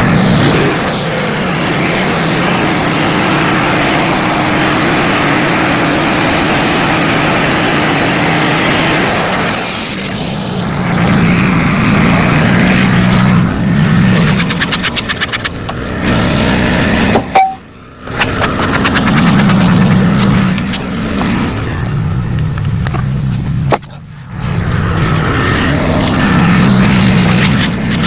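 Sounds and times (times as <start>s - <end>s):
sawmill engine running: 0.0s - 28.0s.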